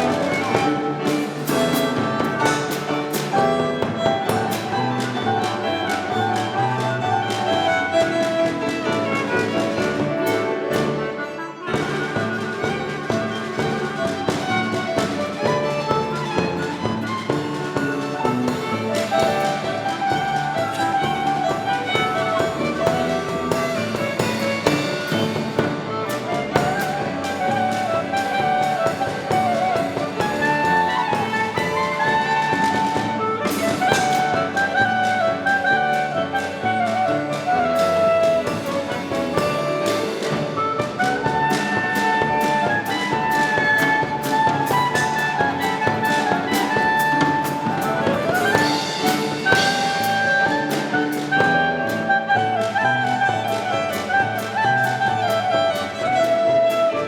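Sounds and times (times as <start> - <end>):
percussion beat: 0.0 - 11.0, 11.7 - 56.9
double bass: 0.0 - 57.0
piano: 0.0 - 57.0.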